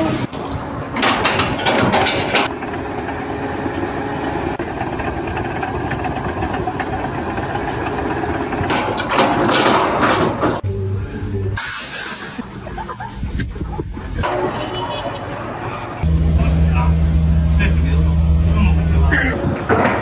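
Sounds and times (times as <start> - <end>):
engine running: 0.0 - 11.6, 14.2 - 20.0.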